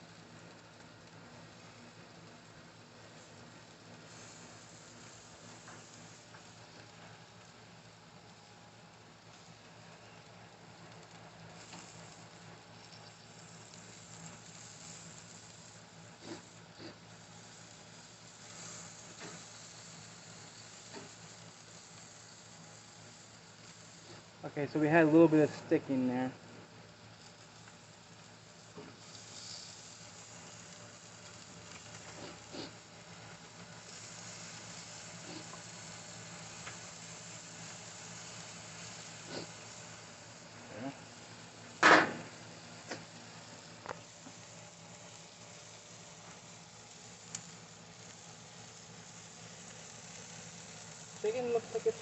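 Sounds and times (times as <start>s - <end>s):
chicken sizzling on grill: 0.0s - 52.0s.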